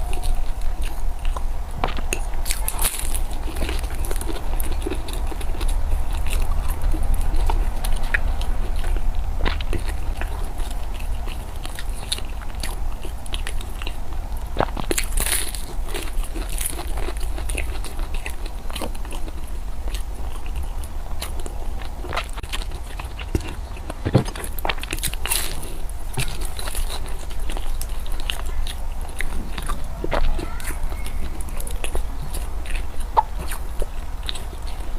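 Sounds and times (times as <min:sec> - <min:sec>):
person chewing crunchy food: 0:00.0 - 0:34.9
steady low hum: 0:00.0 - 0:34.9.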